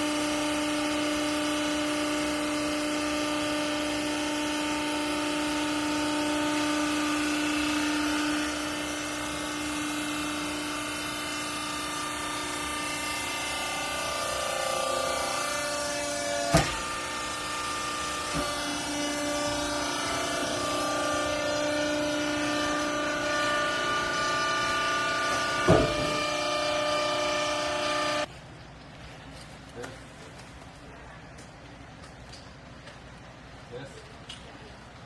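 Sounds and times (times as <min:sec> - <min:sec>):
baling machine whining: 0:00.0 - 0:28.3.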